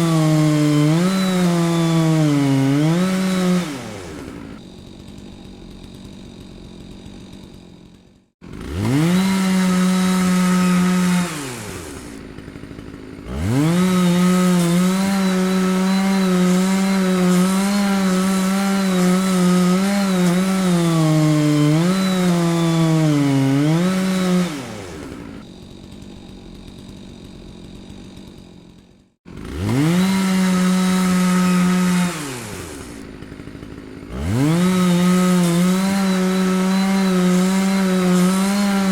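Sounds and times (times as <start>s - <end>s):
chainsaw cutting wood: 0.0s - 38.9s
chainsaw engine revving: 0.0s - 38.9s.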